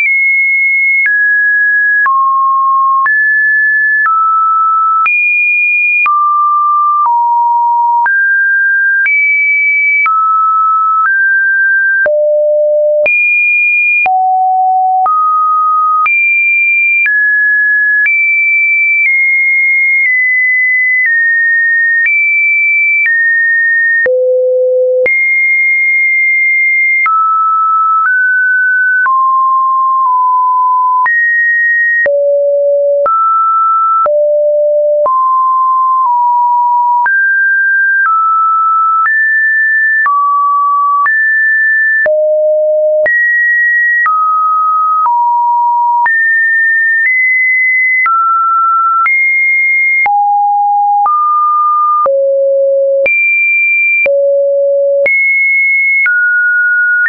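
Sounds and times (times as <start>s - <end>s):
sine-wave test tones: 0.0s - 23.2s, 24.0s - 57.0s.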